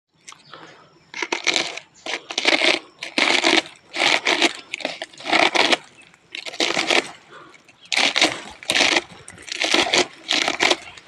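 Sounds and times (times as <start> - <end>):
crunching noises: 0.1 - 11.0.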